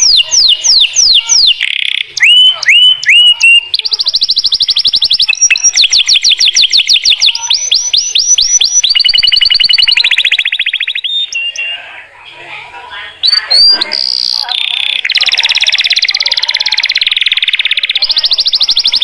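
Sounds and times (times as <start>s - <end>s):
canary singing: 0.0s - 12.2s, 12.9s - 19.0s.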